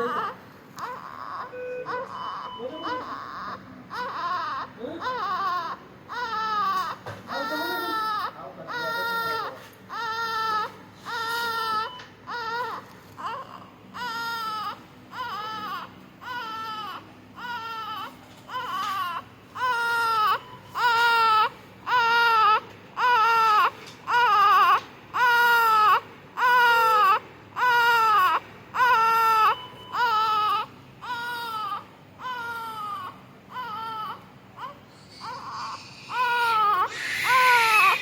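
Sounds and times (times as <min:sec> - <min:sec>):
newborn grunting cries: 0:00.0 - 0:38.0.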